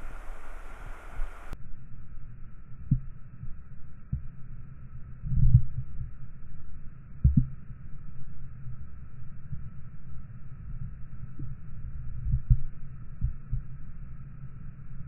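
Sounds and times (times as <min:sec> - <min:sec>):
muffled underwater river rumble: 0:00.0 - 0:15.0.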